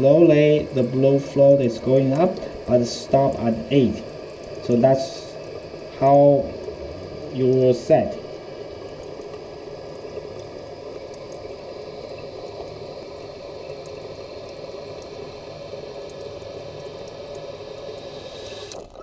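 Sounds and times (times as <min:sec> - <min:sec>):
toilet fill valve hissing: 0:00.0 - 0:19.0.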